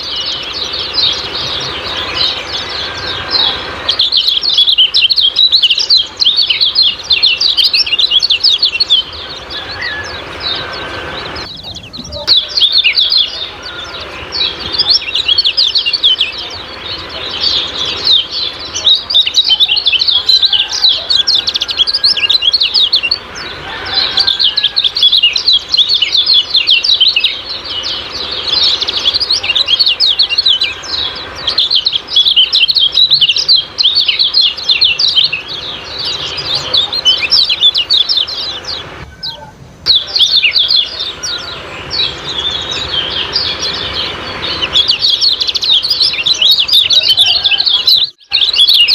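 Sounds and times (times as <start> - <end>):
bird chirping song: 0.0 - 48.9.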